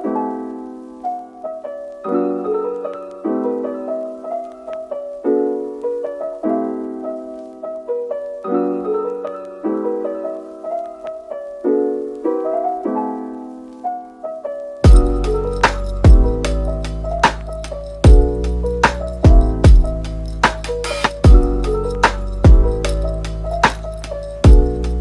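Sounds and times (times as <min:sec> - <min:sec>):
soft piano chords: 0:00.0 - 0:25.0.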